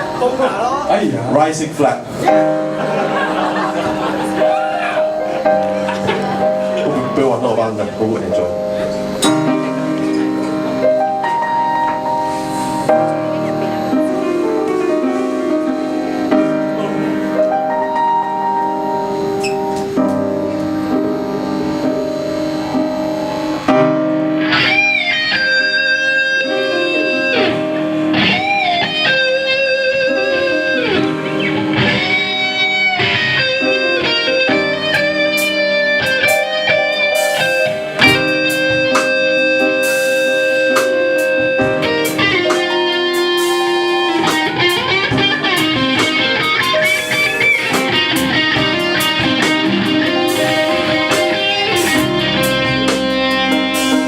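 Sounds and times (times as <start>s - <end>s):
held band chords: 0.0s - 54.0s
electric guitar solo: 2.0s - 54.0s.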